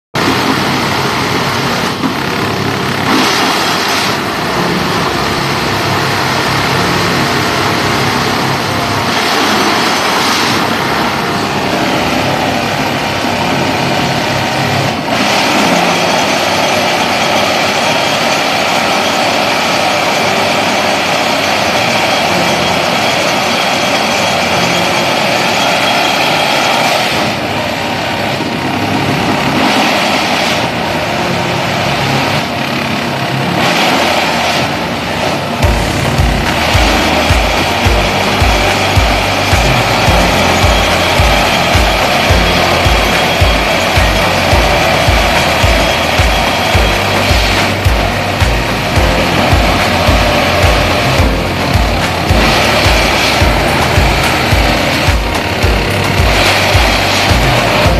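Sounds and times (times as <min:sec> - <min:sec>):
diesel engine and hydraulics: 0:00.1 - 0:57.9
high-pitched tamping buzz: 0:00.2 - 0:57.9.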